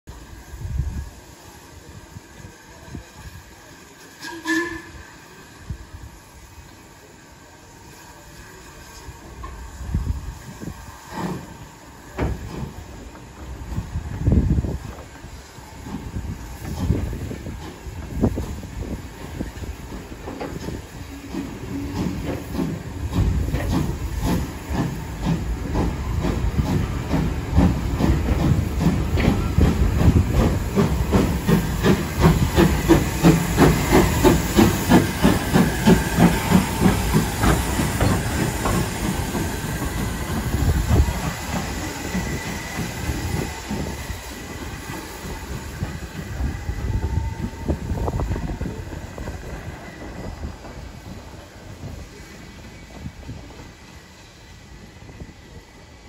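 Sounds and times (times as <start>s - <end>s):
steam hissing: 0.1s - 56.0s
steam locomotive chuffing: 0.1s - 56.0s.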